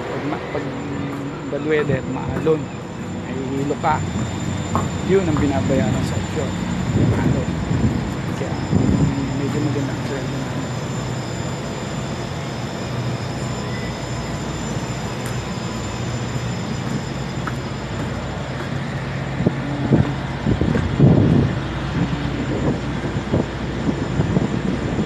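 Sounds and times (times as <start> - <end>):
ship machinery hum: 0.0 - 25.0.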